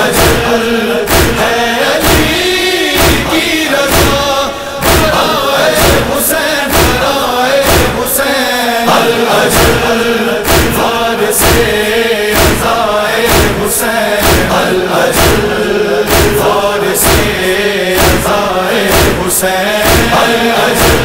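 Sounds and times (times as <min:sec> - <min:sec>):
chest-beating thumps: 0:00.0 - 0:08.1, 0:09.4 - 0:21.0
men chanting in chorus: 0:00.0 - 0:21.0.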